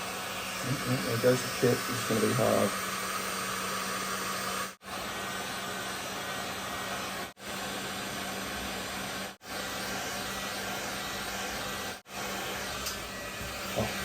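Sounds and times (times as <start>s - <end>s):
heat gun blowing hot air: 0.0s - 14.0s.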